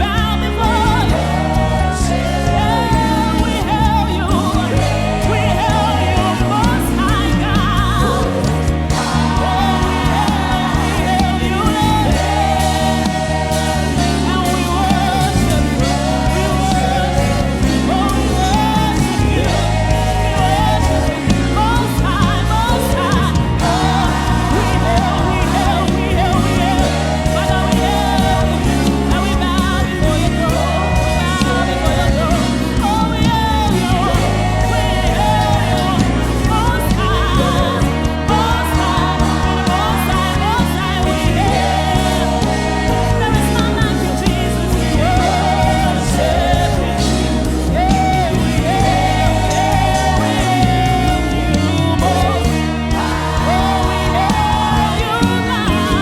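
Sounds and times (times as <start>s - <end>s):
bass: 0.0s - 56.0s
keyboard: 0.0s - 56.0s
person singing gospel melody: 0.0s - 56.0s.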